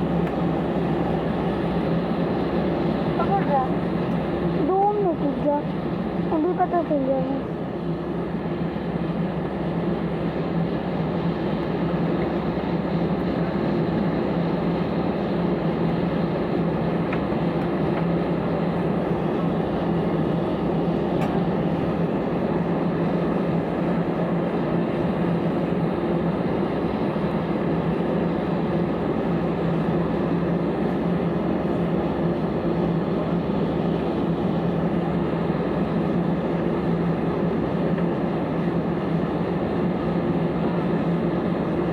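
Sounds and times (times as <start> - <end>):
airliner cabin air rush: 0.0 - 41.9.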